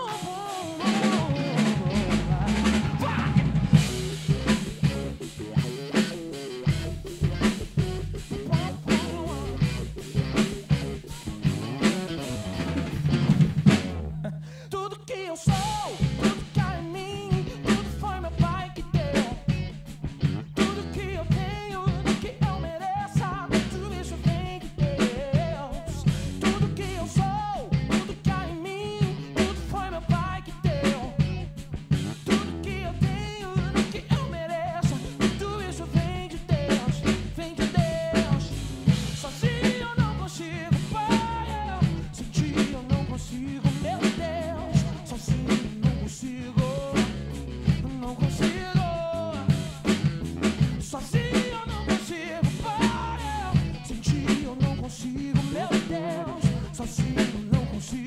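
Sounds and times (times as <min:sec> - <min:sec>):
recorded song with singing: 0:00.0 - 0:13.1, 0:14.2 - 0:58.0
acoustic drum kit playing: 0:00.0 - 0:14.3, 0:15.5 - 0:58.0.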